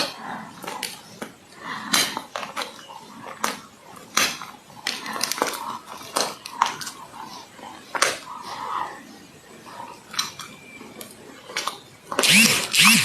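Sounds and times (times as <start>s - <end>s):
dry clay being chewed: 0.0s - 12.4s.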